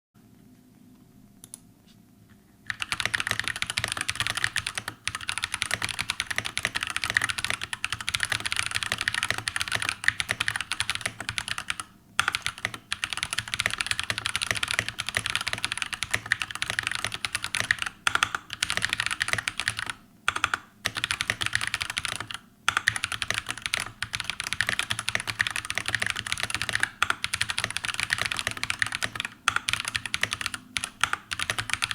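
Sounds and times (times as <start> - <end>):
fast typing on mechanical keyboard: 2.7 - 31.9.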